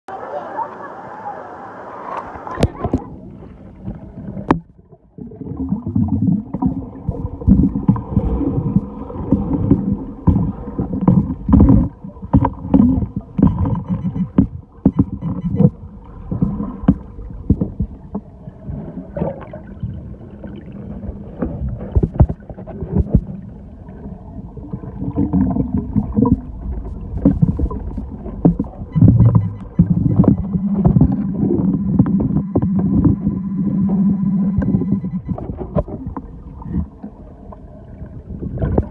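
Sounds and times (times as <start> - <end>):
faint low hum: 0.1 - 38.9
water sloshing and splashing: 2.2 - 38.9.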